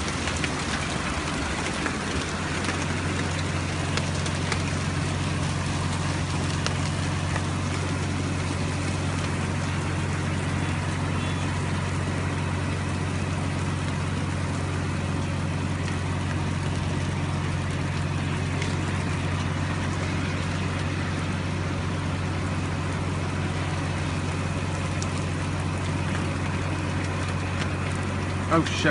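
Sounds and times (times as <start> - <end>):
heavy rain on concrete: 0.0 - 28.9
low hum: 0.0 - 28.9.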